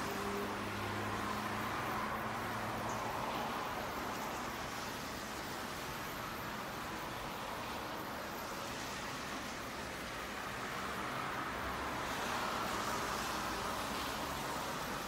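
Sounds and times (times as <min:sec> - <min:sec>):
car passing: 0:00.0 - 0:07.9, 0:08.5 - 0:15.0
tyres hissing on road: 0:00.0 - 0:15.0.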